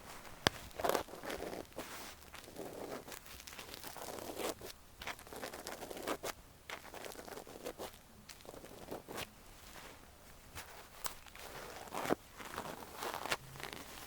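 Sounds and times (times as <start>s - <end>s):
ear cleaning scraping and rustling: 0.0s - 14.0s.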